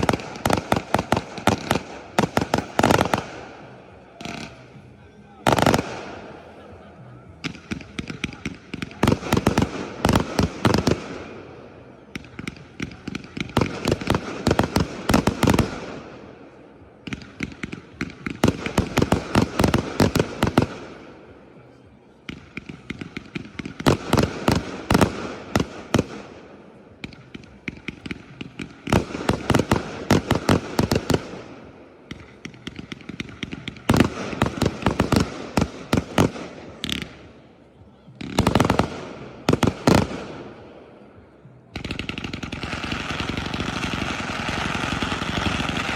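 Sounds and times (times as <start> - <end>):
fireworks bangs and crackles: 0.0 - 45.9.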